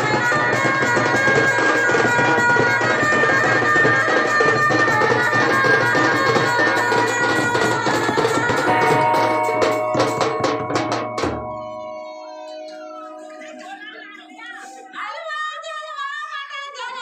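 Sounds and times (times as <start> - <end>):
continuous drumming: 0.0 - 14.5.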